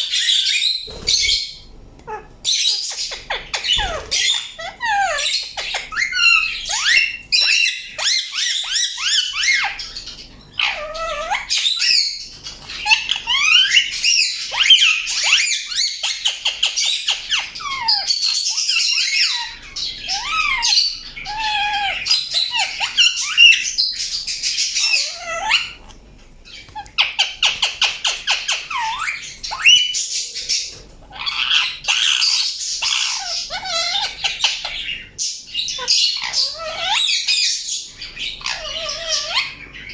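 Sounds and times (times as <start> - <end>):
parakeet chirping and squawking: 0.0 - 39.9.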